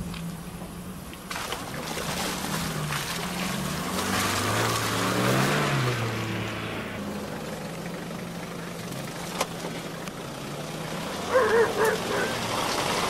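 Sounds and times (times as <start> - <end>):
broad hiss of tyres in mud: 0.0 - 13.0
off-road engine under load: 0.0 - 13.0.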